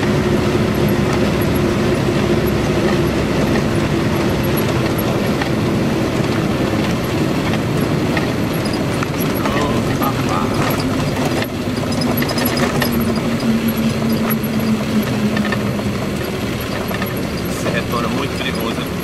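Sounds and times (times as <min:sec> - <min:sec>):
road and tyre noise: 0:00.0 - 0:19.0
truck diesel engine running: 0:00.0 - 0:19.0.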